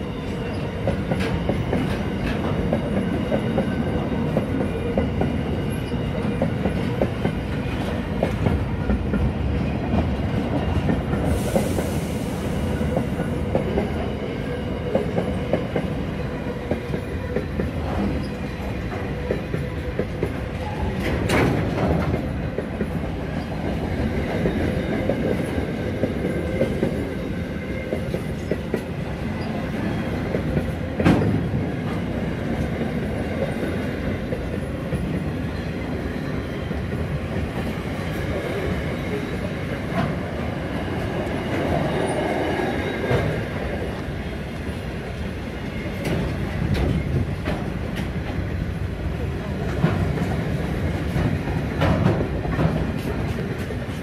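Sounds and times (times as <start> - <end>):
train wagons rumbling past: 0.0 - 54.0.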